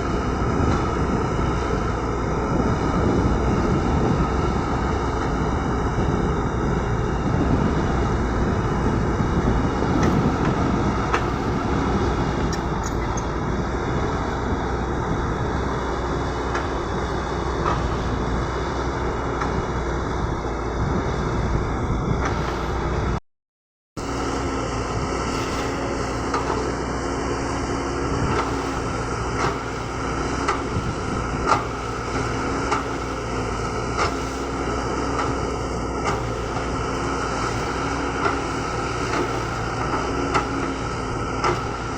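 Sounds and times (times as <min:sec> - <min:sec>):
excavator diesel engine running: 0:00.0 - 0:23.2, 0:24.0 - 0:41.9.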